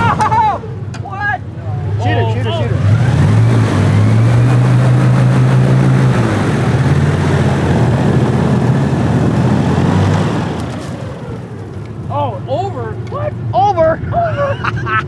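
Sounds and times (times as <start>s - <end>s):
airboat engine and propeller: 1.7s - 14.1s.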